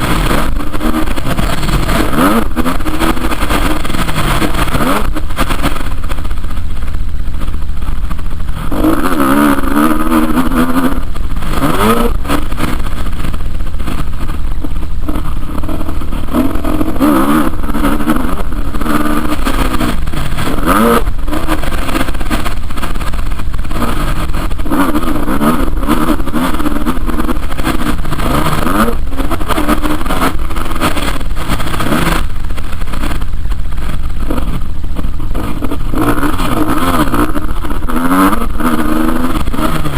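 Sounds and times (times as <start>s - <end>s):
motocross bike engine revving: 0.0s - 39.9s
steady low rumble: 0.0s - 39.9s.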